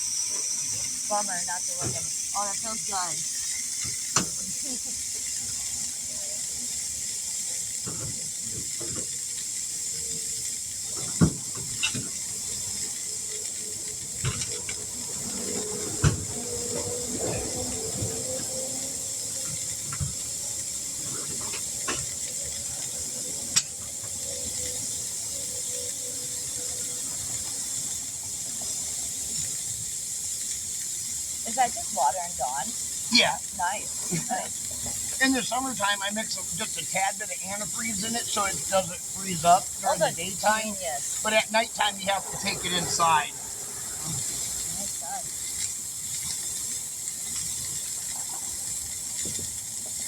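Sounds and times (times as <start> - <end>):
air hissing out of tire: 0.0 - 50.0.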